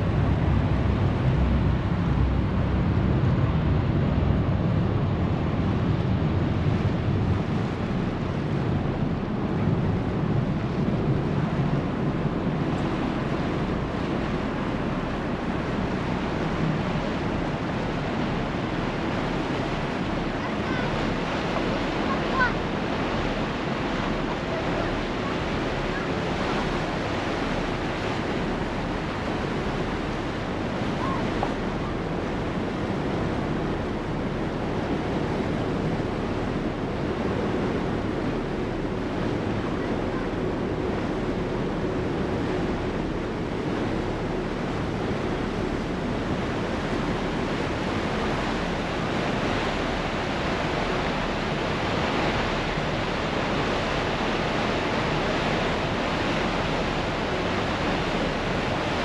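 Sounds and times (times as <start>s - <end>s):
churning water: 0.0s - 59.0s
wind buffeting microphone: 0.0s - 59.0s.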